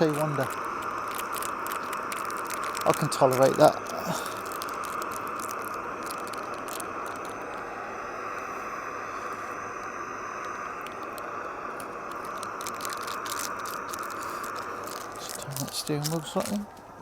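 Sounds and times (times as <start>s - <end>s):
gas stove burner hissing: 0.0s - 17.0s.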